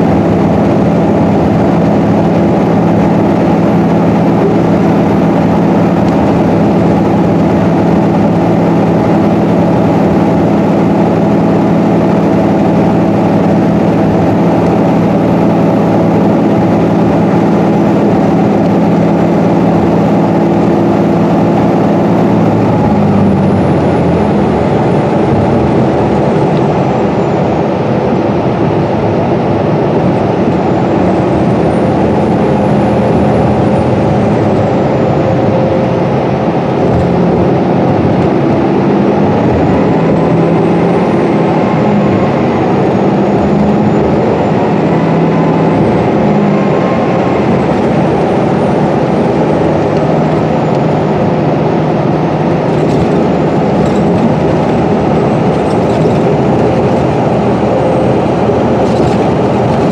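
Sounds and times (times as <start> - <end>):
bus engine hum: 0.0 - 59.9
road and tyre noise: 0.0 - 59.9.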